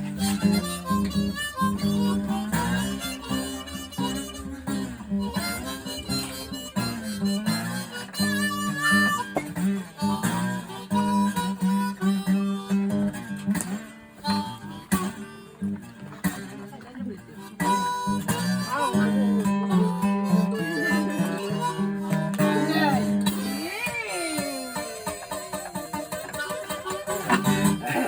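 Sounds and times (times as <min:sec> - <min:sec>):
blues harmonica: 0:00.0 - 0:28.0
plucked acoustic guitar: 0:00.0 - 0:28.0.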